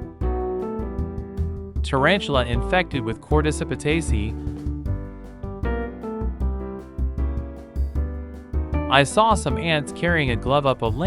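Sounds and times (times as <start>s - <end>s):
plucked and keyboard music: 0.0s - 11.0s
steady low beat: 0.2s - 9.6s.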